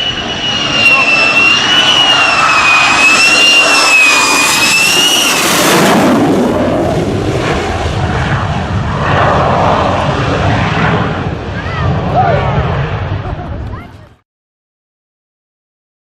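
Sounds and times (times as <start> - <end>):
fighter jets flying past: 0.0 - 14.2.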